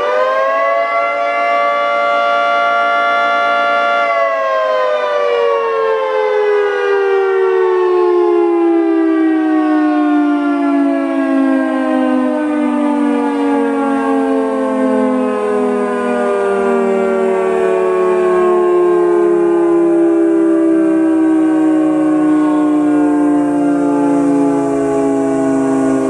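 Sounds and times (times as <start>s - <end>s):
warning siren winding down: 0.0s - 26.0s.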